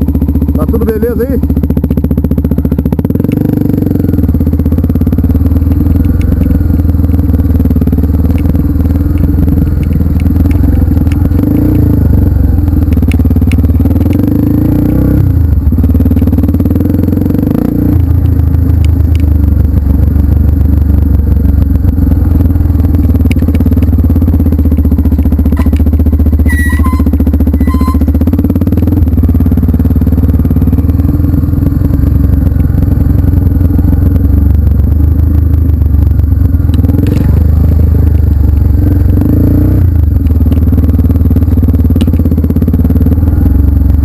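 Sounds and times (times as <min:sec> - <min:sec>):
motorcycle engine pulsing: 0:00.0 - 0:44.0.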